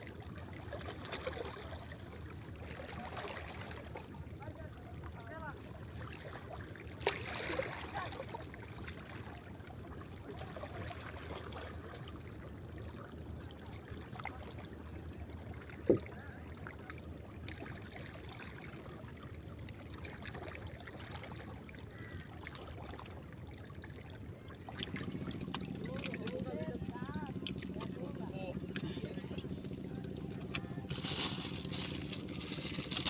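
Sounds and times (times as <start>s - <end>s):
river water rumbling: 0.0s - 33.0s
wind: 0.0s - 33.0s.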